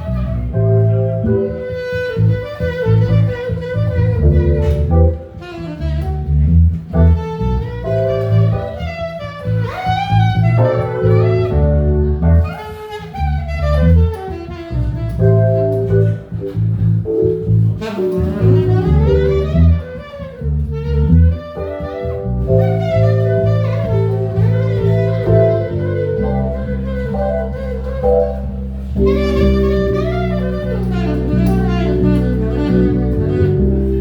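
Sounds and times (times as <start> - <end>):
deep steady bass line: 0.0 - 34.0
lead line with bending notes: 0.0 - 34.0.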